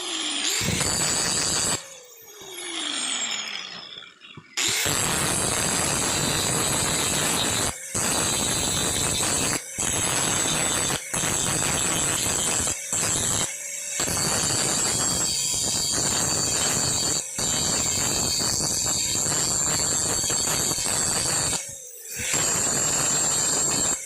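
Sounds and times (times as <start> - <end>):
handheld power tool running: 0.0 - 24.0.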